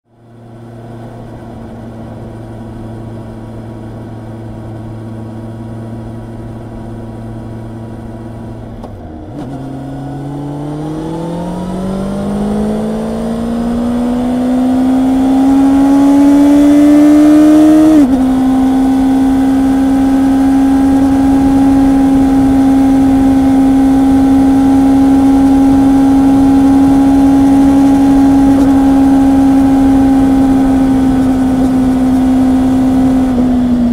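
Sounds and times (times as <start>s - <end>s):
motorcycle engine accelerating: 0.2s - 33.9s.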